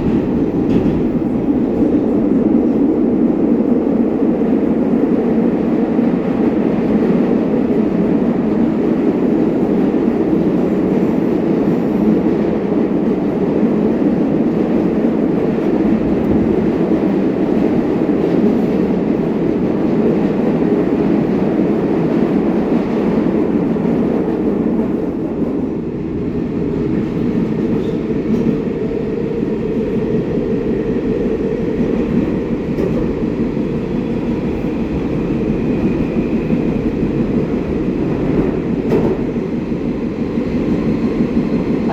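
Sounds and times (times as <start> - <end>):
subway train wheels on track: 0.0 - 41.9.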